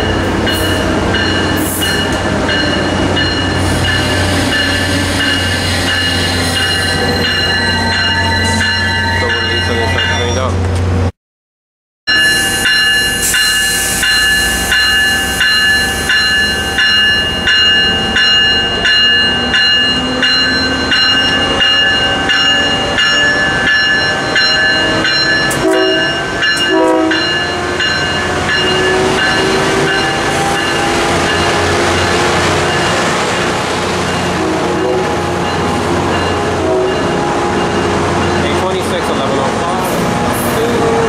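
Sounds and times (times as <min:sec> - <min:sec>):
locomotive bell ringing: 0:00.0 - 0:10.7, 0:12.1 - 0:41.0.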